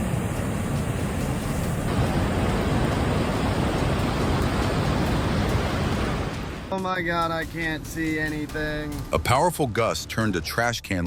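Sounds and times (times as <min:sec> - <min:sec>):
rushing floodwater roar: 0:00.0 - 0:09.1.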